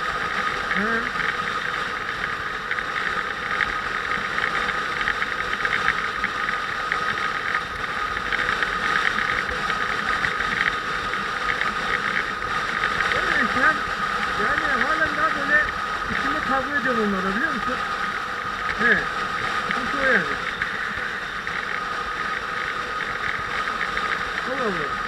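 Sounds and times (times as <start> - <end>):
high whine: 0.0 - 25.0
motorcycle engine running: 0.0 - 25.0
fast ticking: 0.1 - 25.0.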